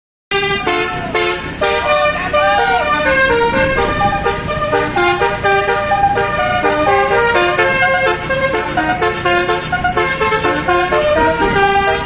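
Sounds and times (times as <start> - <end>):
bus multi-tone horn tune: 0.3 - 12.0.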